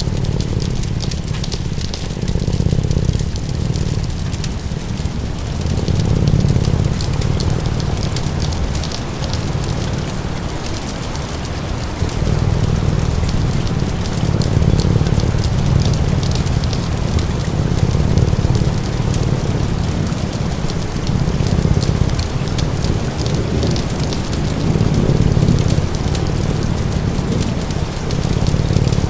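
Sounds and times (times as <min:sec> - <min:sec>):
cat purring: 0:00.0 - 0:29.0
steady rain falling: 0:00.0 - 0:29.0
wood fire crackling: 0:00.0 - 0:29.0.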